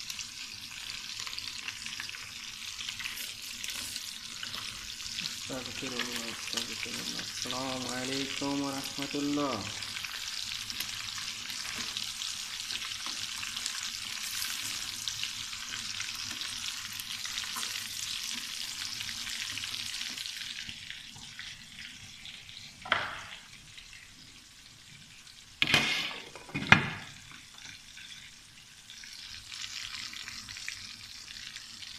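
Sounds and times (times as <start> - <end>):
chicken deep-frying in oil: 0.0 - 31.9.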